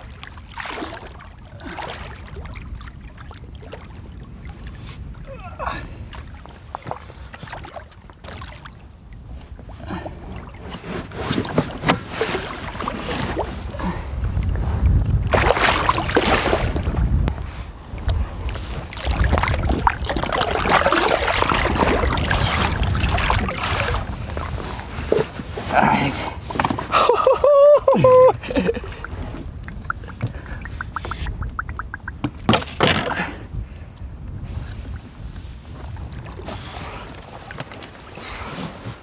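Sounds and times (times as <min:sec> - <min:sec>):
water splashing against boat: 0:00.0 - 0:39.0
wind rumble on microphone: 0:00.0 - 0:39.0.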